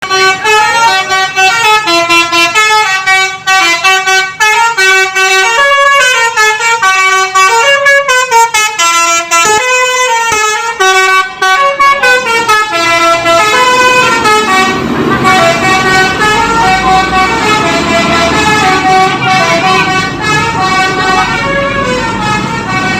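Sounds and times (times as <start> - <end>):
musical bus horn tune: 0.0 - 22.9.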